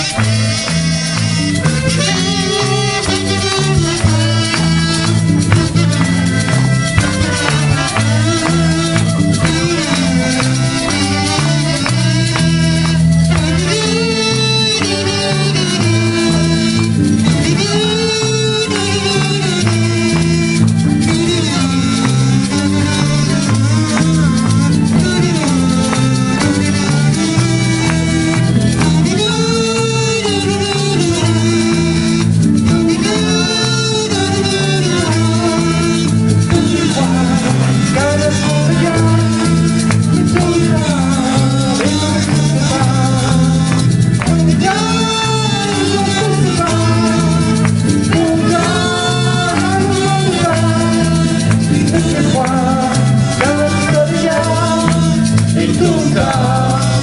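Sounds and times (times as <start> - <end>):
strummed acoustic guitar: 0.0 - 57.0
people singing: 2.0 - 12.7, 13.4 - 57.0.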